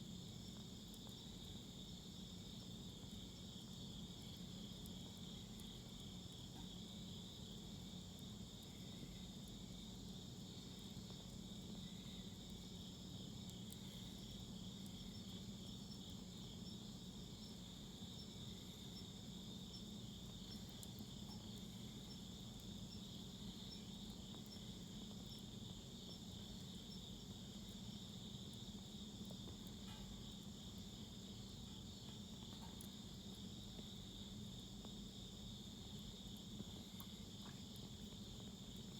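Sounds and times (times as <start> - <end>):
insects trilling: 0.0 - 38.9
wood fire popping: 2.3 - 38.9.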